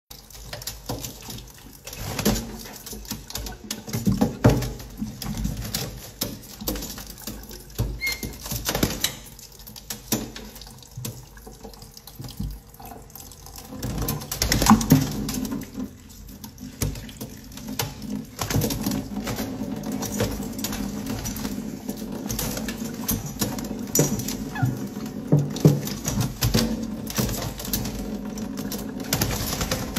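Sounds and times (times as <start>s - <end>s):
faucet water on steel sink: 0.1s - 29.9s
parrots splashing and flapping: 0.1s - 29.9s.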